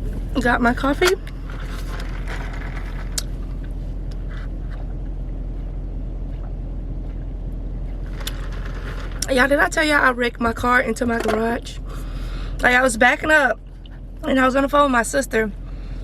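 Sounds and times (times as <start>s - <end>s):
car engine running: 0.0s - 16.0s
climate fan blowing air: 0.0s - 16.0s.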